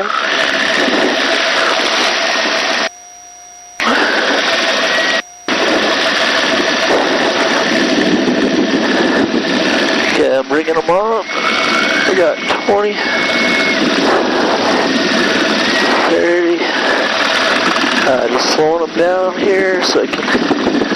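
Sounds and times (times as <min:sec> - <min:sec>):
helicopter engine and rotor noise: 0:00.0 - 0:20.9.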